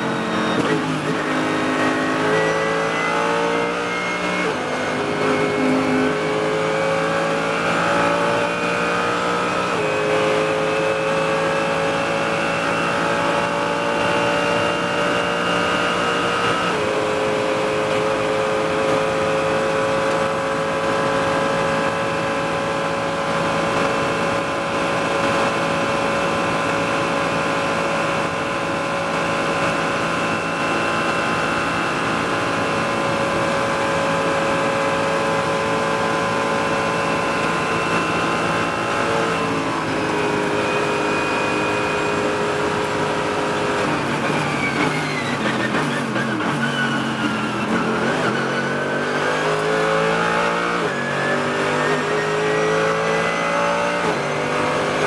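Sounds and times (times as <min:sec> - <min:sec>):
car engine at high revs: 0:00.0 - 0:55.0.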